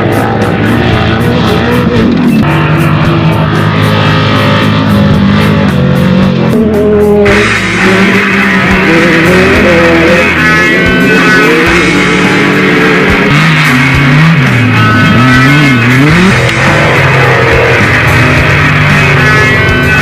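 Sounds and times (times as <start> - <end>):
rock music with electric guitar: 0.0 - 20.0.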